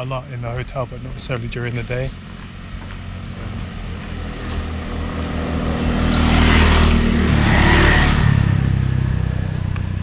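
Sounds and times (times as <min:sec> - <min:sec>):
motorbike engine passing by: 0:01.5 - 0:10.0.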